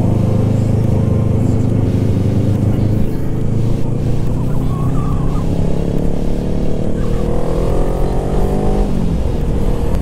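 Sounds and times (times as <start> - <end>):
motorcycle engine accelerating: 0.0 - 10.0
wind and road rumble: 0.0 - 10.0.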